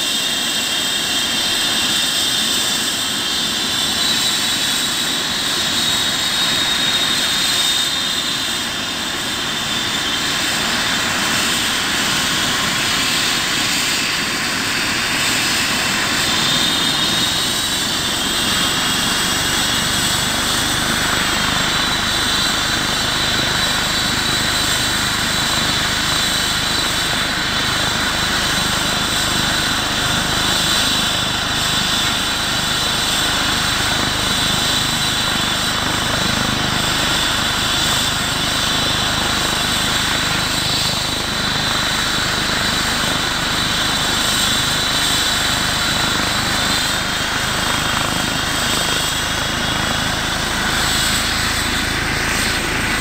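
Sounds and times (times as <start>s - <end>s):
aircraft turbine engines running: 0.0s - 53.0s.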